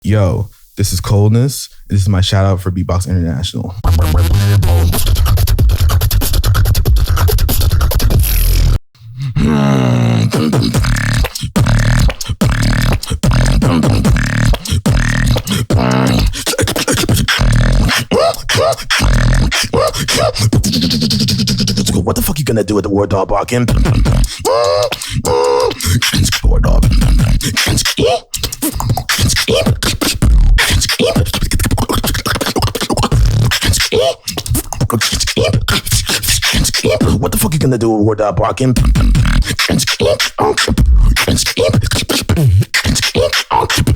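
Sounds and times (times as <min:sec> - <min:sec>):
vocal bass tones: 0:03.7 - 0:43.9
beatboxing kick and snare: 0:03.8 - 0:08.8, 0:09.6 - 0:22.5, 0:23.3 - 0:37.7, 0:38.4 - 0:43.9.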